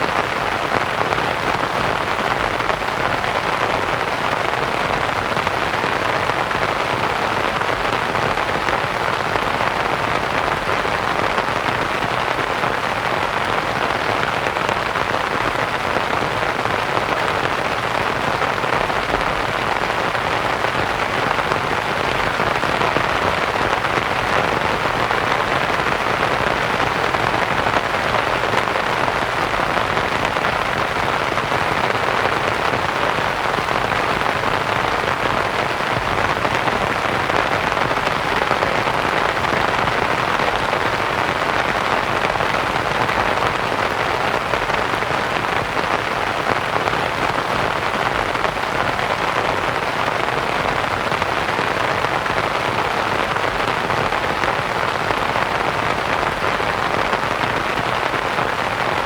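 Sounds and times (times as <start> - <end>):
rain pattering on a tent: 0.0 - 59.0.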